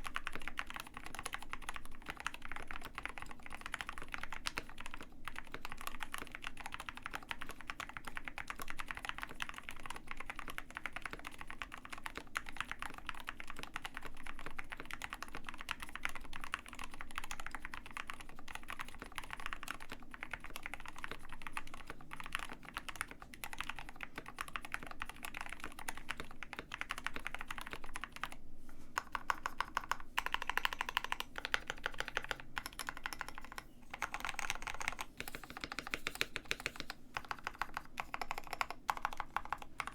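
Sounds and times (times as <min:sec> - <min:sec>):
fast typing on mechanical keyboard: 0:00.0 - 0:28.4, 0:29.0 - 0:39.9.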